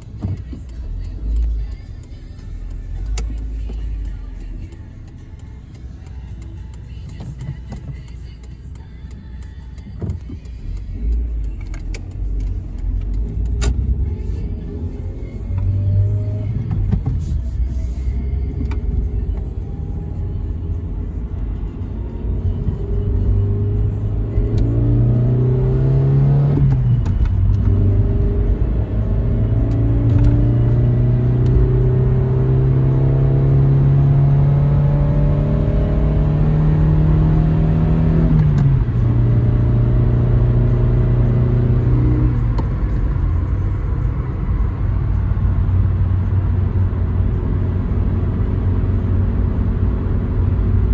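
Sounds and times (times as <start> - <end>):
car engine accelerating: 8.8 - 50.9.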